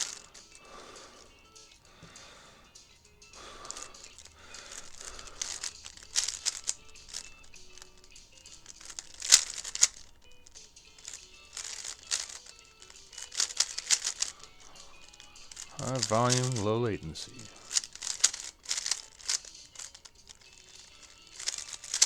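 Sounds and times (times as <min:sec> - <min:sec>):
puzzle cube clicking: 0:00.0 - 0:02.2, 0:03.2 - 0:22.0.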